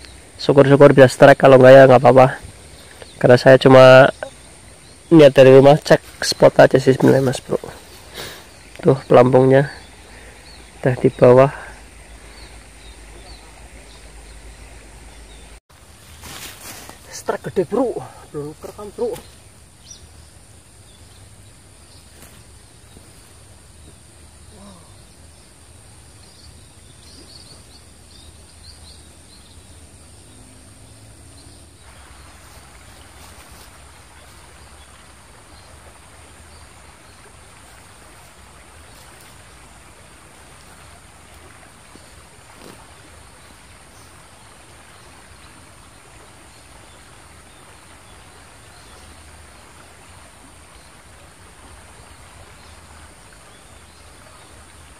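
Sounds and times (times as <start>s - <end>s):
flowing stream: 0.0s - 54.9s.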